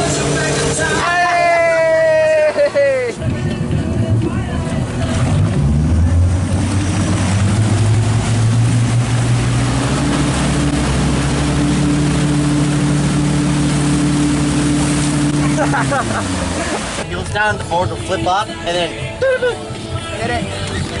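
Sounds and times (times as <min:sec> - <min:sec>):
churning wake water: 0:00.0 - 0:21.0
motorboat engine: 0:00.0 - 0:21.0.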